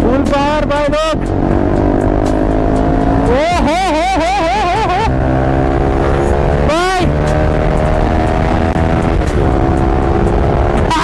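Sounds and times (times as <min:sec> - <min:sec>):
motorcycle engine with loud exhaust: 0:00.0 - 0:11.0.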